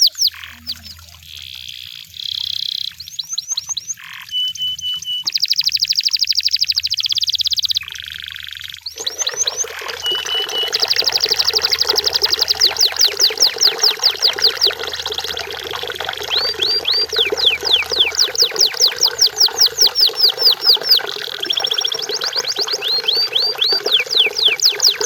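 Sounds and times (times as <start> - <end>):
canary singing trills: 0.0 - 15.3, 16.0 - 25.0.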